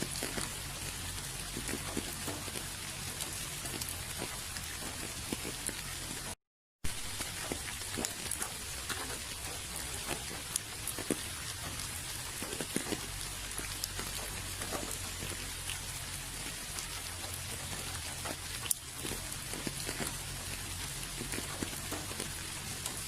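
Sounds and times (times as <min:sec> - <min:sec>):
raindrops ticking: 0:00.0 - 0:23.0
steady rain falling: 0:00.0 - 0:23.0.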